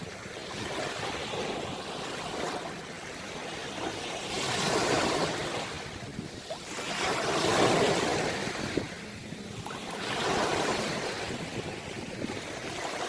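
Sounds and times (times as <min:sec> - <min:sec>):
ocean waves washing ashore: 0:00.0 - 0:13.0.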